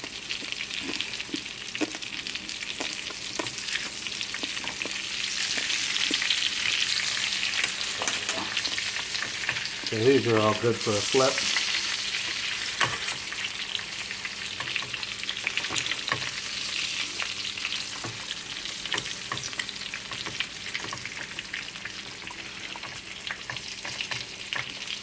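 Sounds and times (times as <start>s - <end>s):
chicken sizzling in frying pan: 0.0s - 25.0s.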